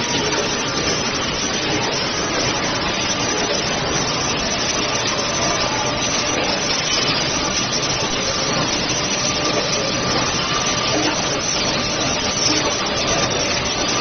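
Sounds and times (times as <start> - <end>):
faint machine hum: 0.0 - 14.0
packing machine running: 0.0 - 14.0.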